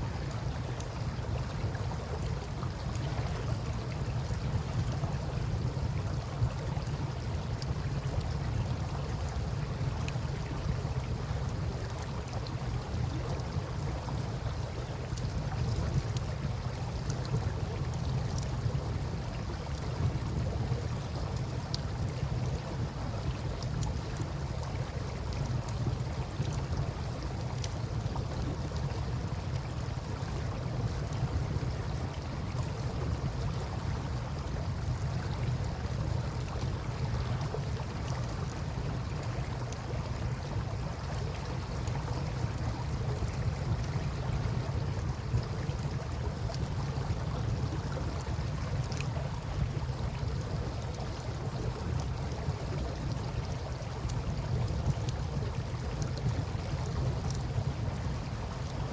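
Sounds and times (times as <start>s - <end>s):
river water washing: 0.0s - 58.9s.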